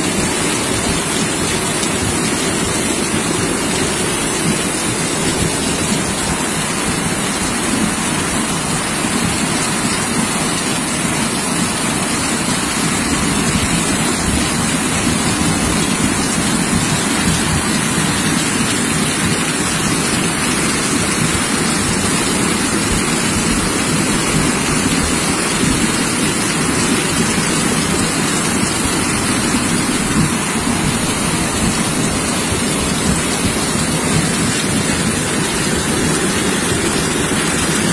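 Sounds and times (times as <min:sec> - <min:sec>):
floodwater rushing down street: 0:00.0 - 0:37.9
heavy rain: 0:00.0 - 0:37.9.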